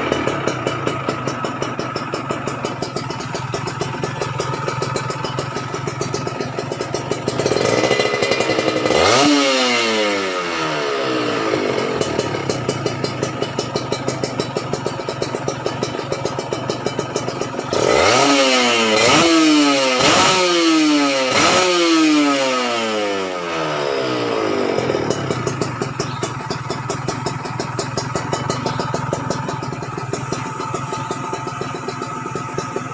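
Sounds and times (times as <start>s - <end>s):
two-stroke motorcycle engine revving: 0.0s - 32.9s.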